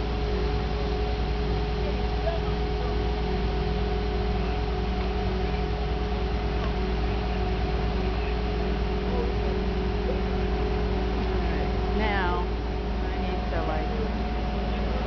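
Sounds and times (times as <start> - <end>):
crane diesel engine droning: 0.0 - 15.0.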